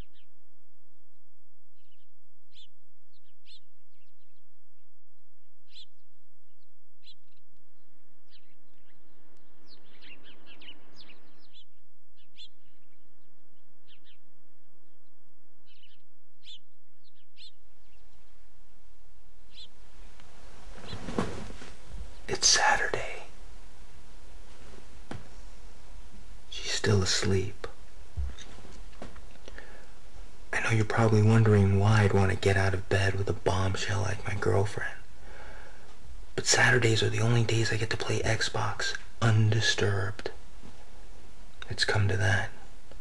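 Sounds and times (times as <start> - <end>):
songbirds chirping: 0.0 - 42.8.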